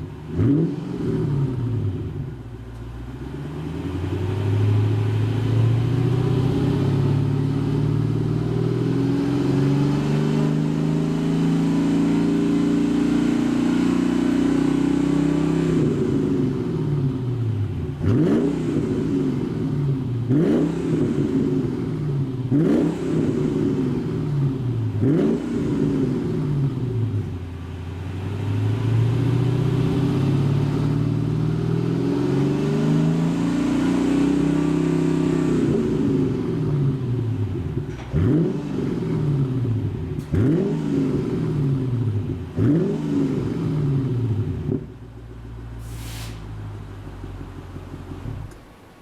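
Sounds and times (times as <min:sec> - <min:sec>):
car engine revving: 0:00.0 - 0:02.4, 0:03.1 - 0:49.0.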